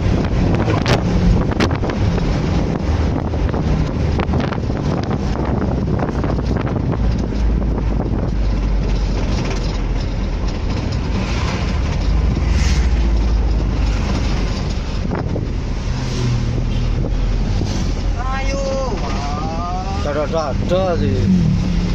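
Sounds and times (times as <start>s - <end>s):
wind buffeting microphone: 0.0s - 19.6s
moving vehicle rumble: 0.0s - 21.9s
surrounding traffic: 0.0s - 21.9s.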